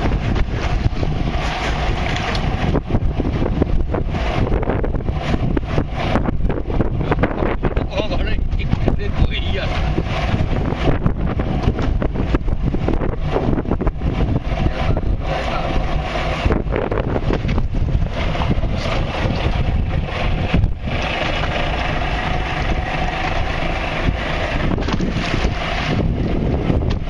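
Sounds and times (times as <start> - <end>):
boat engine running: 0.0 - 27.0
wind buffeting microphone: 0.0 - 27.0.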